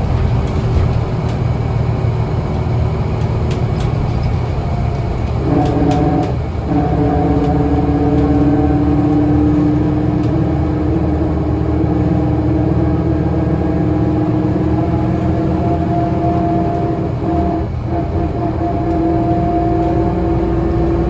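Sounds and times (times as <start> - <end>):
bus engine rumble: 0.0 - 21.0
drivetrain whine: 0.0 - 21.0.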